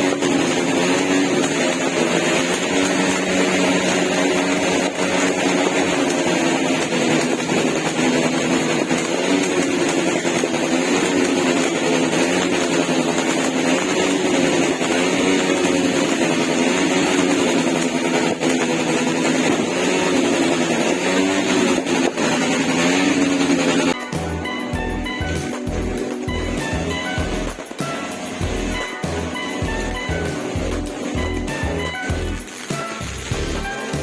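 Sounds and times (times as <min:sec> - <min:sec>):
firework cake rapid rattle: 0:00.0 - 0:34.0.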